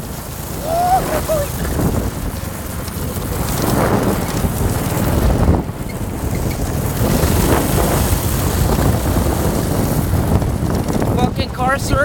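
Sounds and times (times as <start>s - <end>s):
go-kart engine running: 0.0s - 12.0s
wind buffeting microphone: 0.0s - 12.0s.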